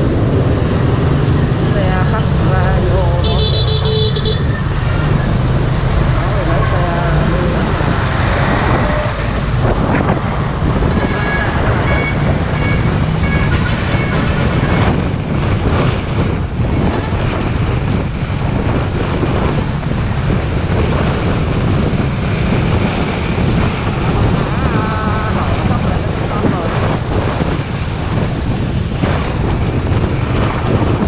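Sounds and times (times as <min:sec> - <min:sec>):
road traffic rumble: 0:00.0 - 0:31.0
trucks passing: 0:00.0 - 0:31.0
wind on microphone: 0:00.0 - 0:31.0.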